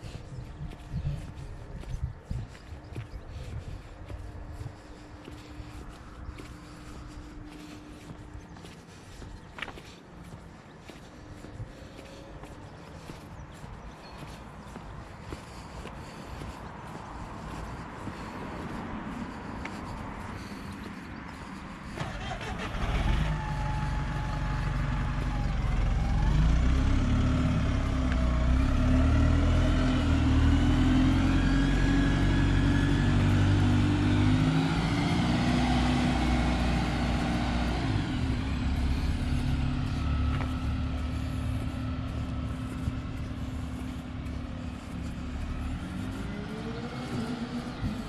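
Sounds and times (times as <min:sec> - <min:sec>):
bus diesel engine pulling away: 0:00.0 - 0:48.0.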